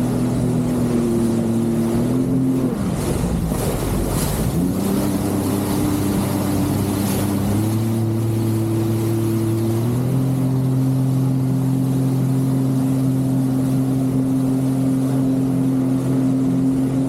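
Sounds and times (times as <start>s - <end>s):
jet ski engine running: 0.0s - 17.0s
rushing wind and water: 0.0s - 17.0s.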